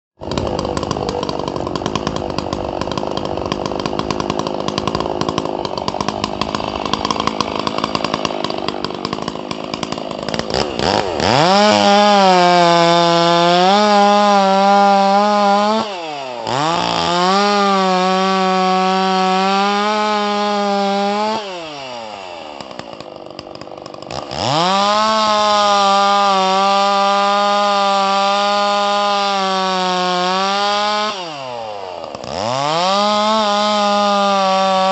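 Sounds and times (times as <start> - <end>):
chainsaw idling: 0.2 - 34.9
chainsaw revving at full throttle: 0.2 - 34.9.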